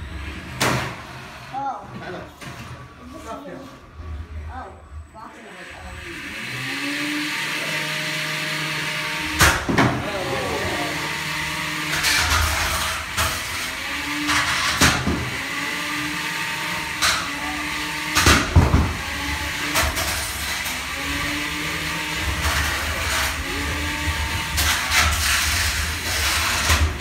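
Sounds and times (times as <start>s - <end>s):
electric motors whining: 0.0s - 27.0s.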